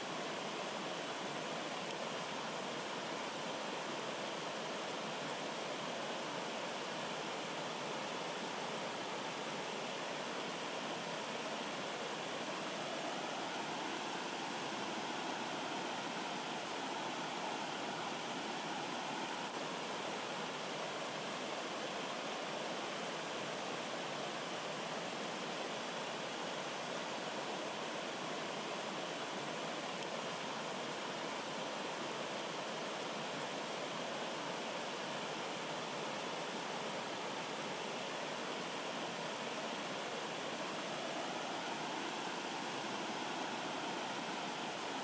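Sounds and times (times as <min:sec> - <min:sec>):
stream babbling over boulders: 0:00.0 - 0:45.0.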